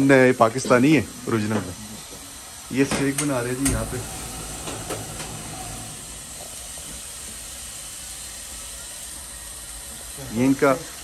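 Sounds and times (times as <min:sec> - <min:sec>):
kitchen hiss: 0:00.0 - 0:11.0.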